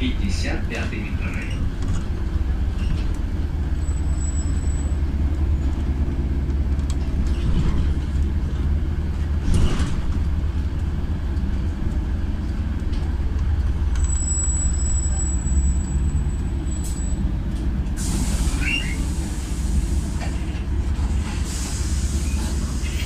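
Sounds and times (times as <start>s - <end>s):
bus engine droning: 0.0s - 23.0s
road and cabin noise: 0.0s - 23.0s.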